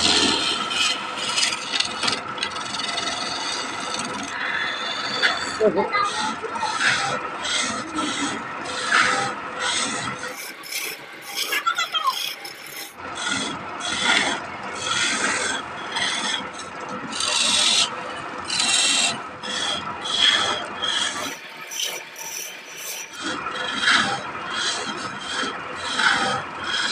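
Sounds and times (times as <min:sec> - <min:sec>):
chisel scraping wood on lathe: 0:00.0 - 0:26.9.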